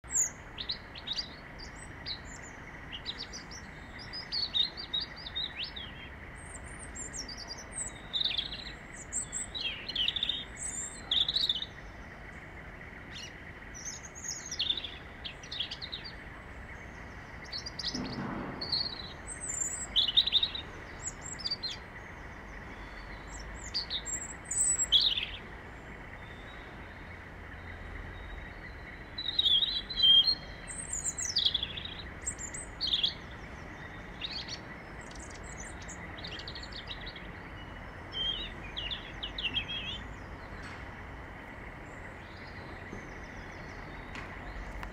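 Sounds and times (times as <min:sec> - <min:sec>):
robin singing: 0:00.0 - 0:44.9.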